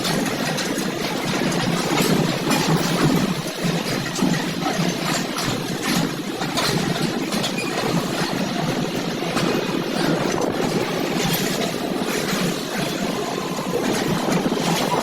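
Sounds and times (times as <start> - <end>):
machinery rumbling and rattling: 0.0 - 15.0.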